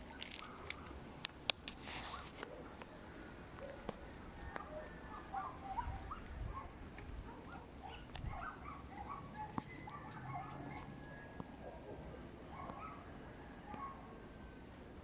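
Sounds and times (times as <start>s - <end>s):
birds calling: 2.5s - 14.6s.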